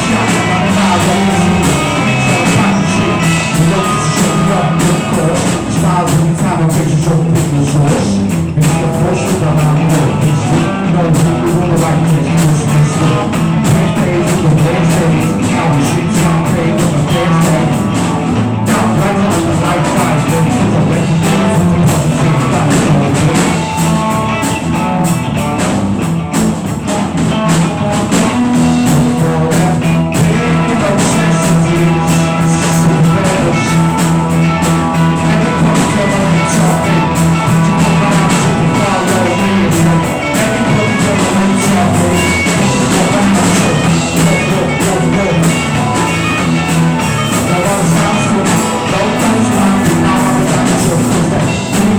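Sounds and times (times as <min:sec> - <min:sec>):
drum kit beat: 0:00.0 - 0:51.9
guitar playing: 0:00.0 - 0:51.9.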